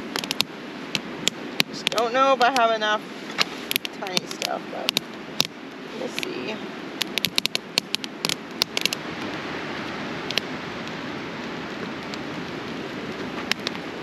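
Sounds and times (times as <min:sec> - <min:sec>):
campfire crackling and popping: 0:00.0 - 0:14.0
low rushing noise: 0:00.0 - 0:14.0.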